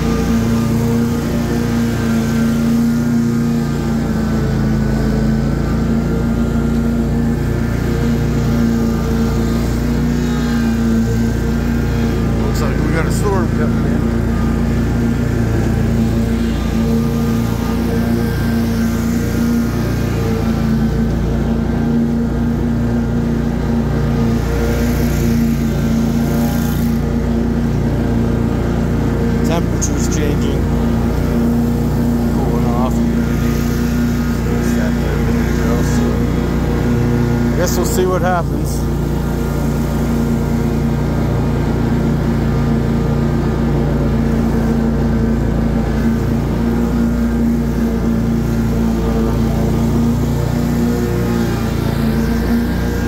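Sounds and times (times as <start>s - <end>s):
lawn mower engine running: 0.0s - 53.0s.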